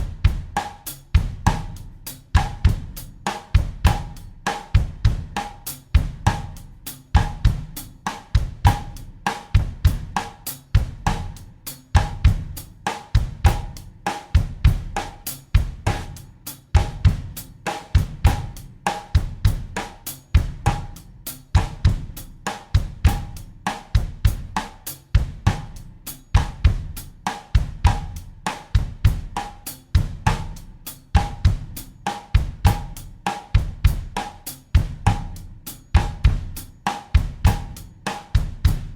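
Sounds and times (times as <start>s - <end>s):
drum kit bossa nova groove: 0.0s - 38.9s.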